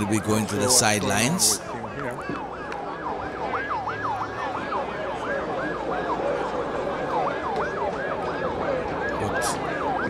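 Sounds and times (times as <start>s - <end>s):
siren yelping: 0.0s - 10.0s.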